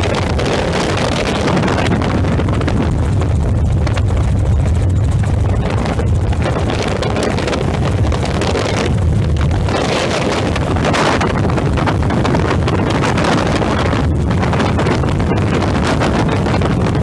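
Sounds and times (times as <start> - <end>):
helicopter engine and rotor noise: 0.0 - 17.0
wind buffeting microphone: 0.0 - 17.0.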